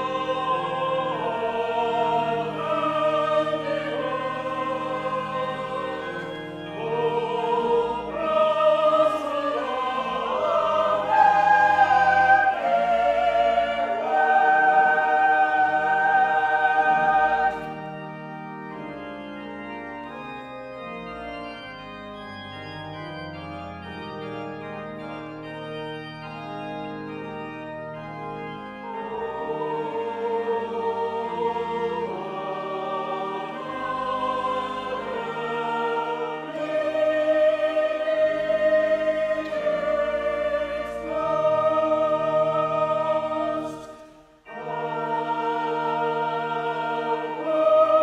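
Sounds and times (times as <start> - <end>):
choir singing: 0.0 - 20.2, 28.5 - 48.0
organ chords: 0.0 - 48.0.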